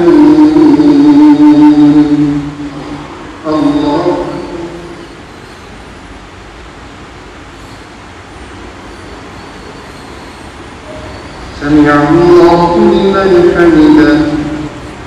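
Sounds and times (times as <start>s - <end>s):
steady rushing fan noise: 0.0s - 15.0s.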